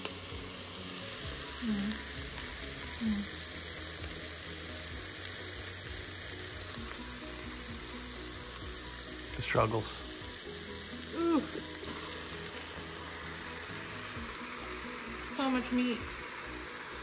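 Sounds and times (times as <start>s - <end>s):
onions and peppers sizzling: 0.0s - 17.0s.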